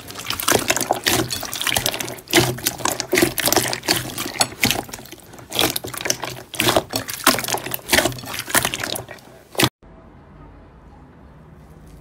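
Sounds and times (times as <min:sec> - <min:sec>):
slime squelching and popping: 0:00.0 - 0:09.7.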